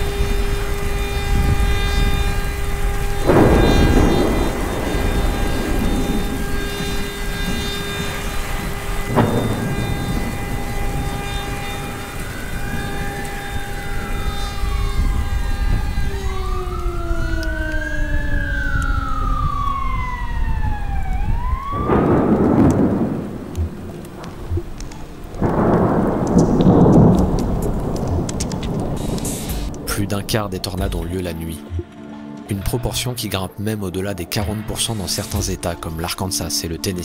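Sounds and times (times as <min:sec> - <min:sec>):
emergency siren wailing: 0:00.0 - 0:33.1, 0:34.2 - 0:37.0
thunder claps: 0:00.0 - 0:33.1
heavy rain pouring: 0:00.0 - 0:37.0.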